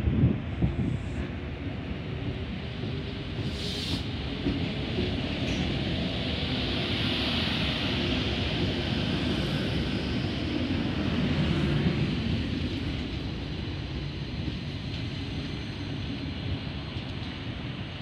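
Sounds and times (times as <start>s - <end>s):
train rumbling and hissing: 0.0s - 18.0s.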